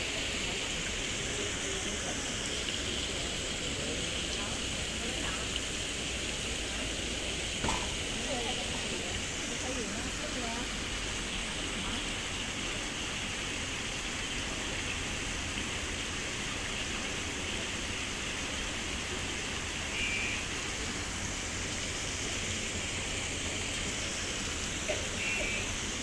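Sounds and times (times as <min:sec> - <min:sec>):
waterfall splashing over rocks: 0:00.0 - 0:26.0.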